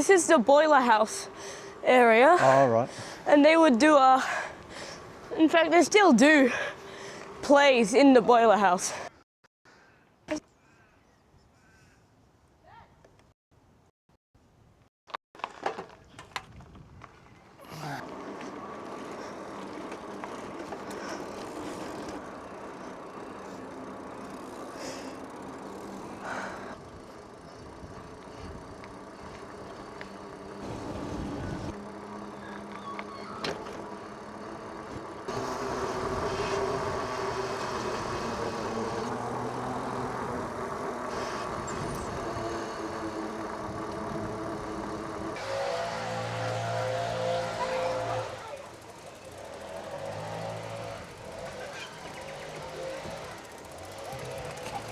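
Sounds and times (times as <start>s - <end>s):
bicycle tyres on road: 0.0s - 8.2s, 15.4s - 54.9s
motor traffic: 0.0s - 9.1s, 17.6s - 54.9s
wind: 0.0s - 54.9s.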